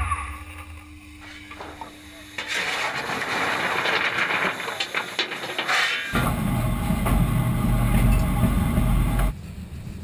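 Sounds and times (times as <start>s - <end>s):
locomotive rumbling along track: 1.5s - 10.0s.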